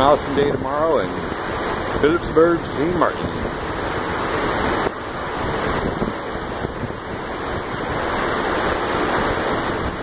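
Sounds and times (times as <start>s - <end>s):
ship's wake rushing: 0.0s - 10.0s
wind on microphone: 0.0s - 10.0s.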